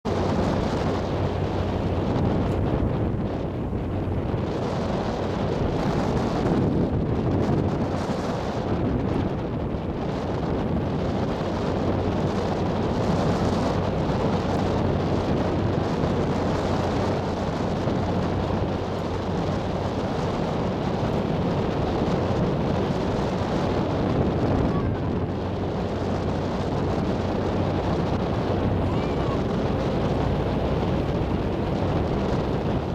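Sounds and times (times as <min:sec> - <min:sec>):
ferry engine humming: 0:00.0 - 0:32.9
wind buffeting microphone: 0:00.0 - 0:32.9.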